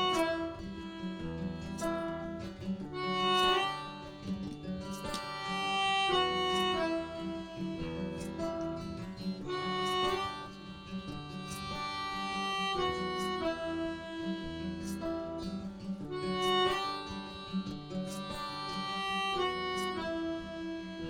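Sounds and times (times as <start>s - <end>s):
melody notes: 0.0s - 21.0s
strummed chords: 0.0s - 21.0s.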